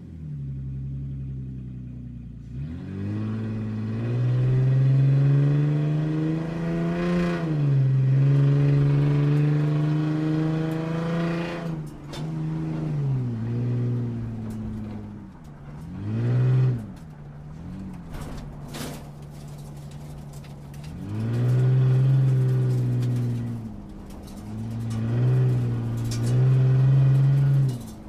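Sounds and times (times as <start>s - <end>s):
sports car engine revving: 0.0s - 18.2s, 20.3s - 28.0s.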